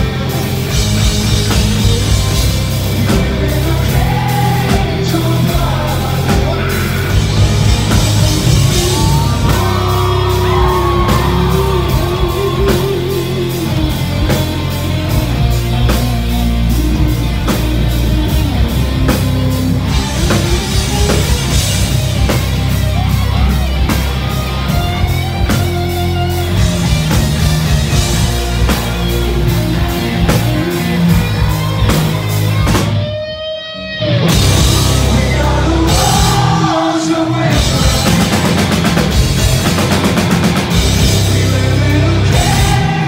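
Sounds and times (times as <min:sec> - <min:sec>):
distorted electric guitar: 0:00.0 - 0:43.0
drum kit: 0:00.0 - 0:43.0
electric bass: 0:00.0 - 0:43.0
rock band playing live: 0:00.0 - 0:43.0.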